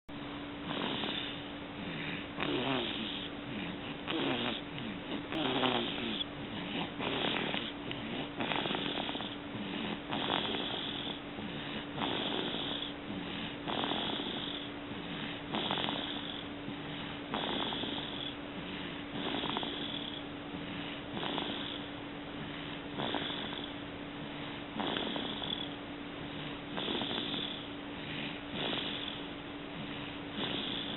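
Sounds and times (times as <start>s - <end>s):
baby snoring: 0.6s - 30.9s.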